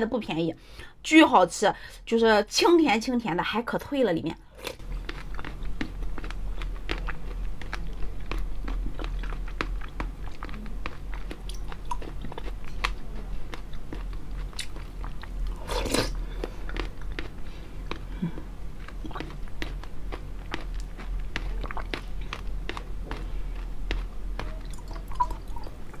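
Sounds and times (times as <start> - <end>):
low steady hum: 0.0 - 26.0
mouth chewing crunchy food: 4.6 - 26.0.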